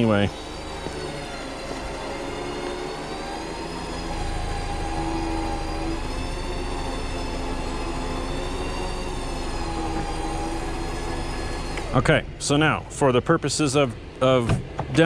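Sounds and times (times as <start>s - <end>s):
electric winch whining: 0.0s - 12.8s.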